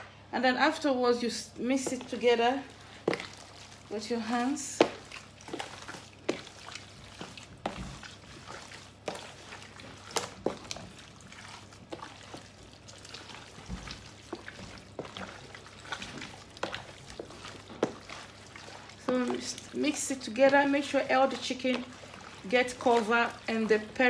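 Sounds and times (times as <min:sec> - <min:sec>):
raw meat squishing by hand: 0:01.8 - 0:24.0.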